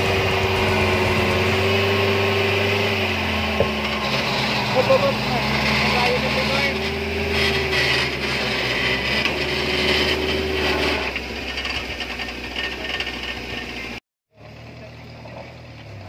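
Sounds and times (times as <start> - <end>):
tree stump scraping over concrete: 0.0 - 14.0
car engine running under load: 0.0 - 16.0.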